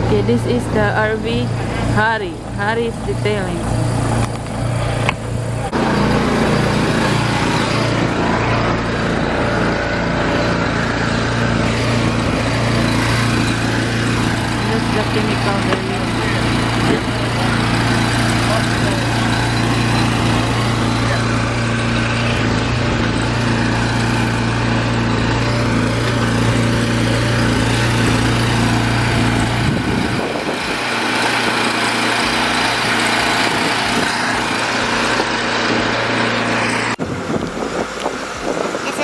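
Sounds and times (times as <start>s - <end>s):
small engine droning: 0.0s - 39.0s.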